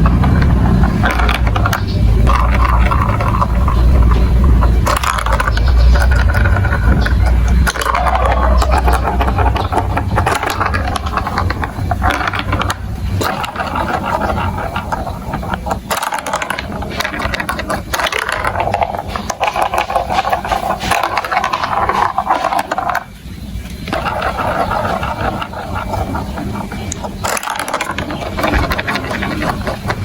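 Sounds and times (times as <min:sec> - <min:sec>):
marbles rattling down plastic track: 0:00.0 - 0:30.0.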